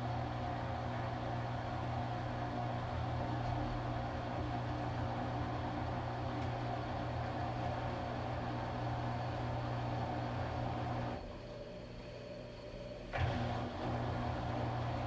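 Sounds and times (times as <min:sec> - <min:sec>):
washing machine running: 0:02.9 - 0:15.0.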